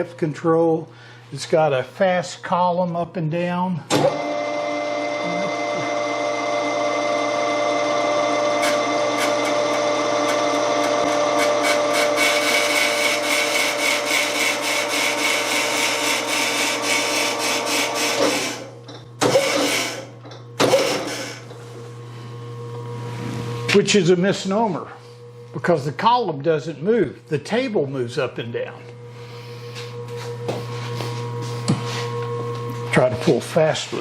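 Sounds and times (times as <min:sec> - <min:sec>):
grinder drive whine and ticking: 0:01.5 - 0:34.0.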